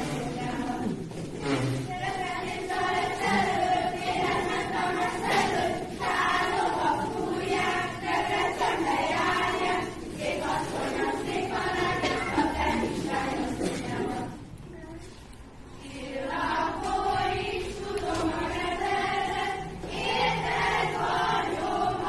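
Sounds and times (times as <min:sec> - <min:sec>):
choir singing: 0:00.0 - 0:14.4, 0:15.7 - 0:22.0.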